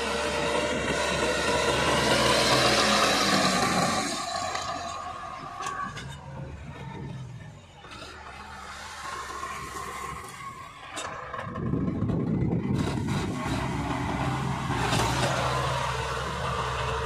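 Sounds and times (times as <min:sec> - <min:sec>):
rotary tiller churning soil: 0:00.0 - 0:07.0, 0:07.9 - 0:17.0
tractor diesel engine running: 0:00.0 - 0:17.0.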